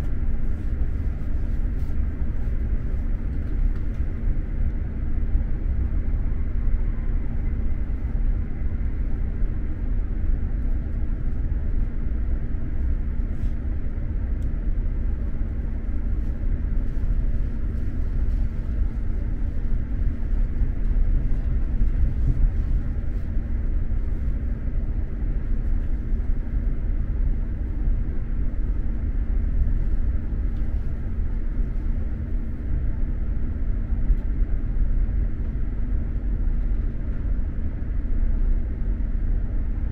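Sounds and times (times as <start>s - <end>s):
constant low hum: 0.0s - 39.9s
train rumbling inside carriage: 0.0s - 39.9s.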